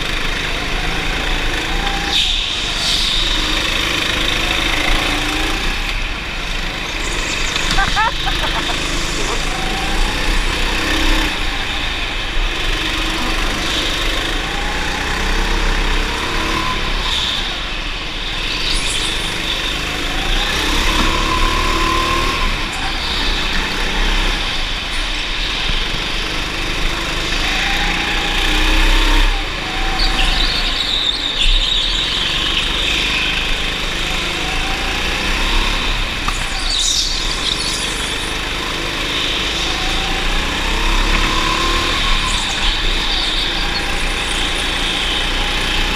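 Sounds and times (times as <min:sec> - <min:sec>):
go-kart engine revving: 0:00.0 - 0:45.9.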